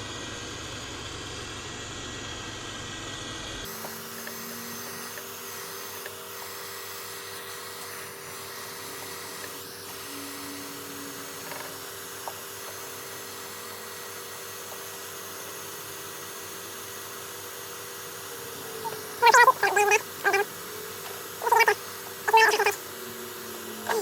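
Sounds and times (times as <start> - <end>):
heat gun blowing hot air: 3.6 - 24.0.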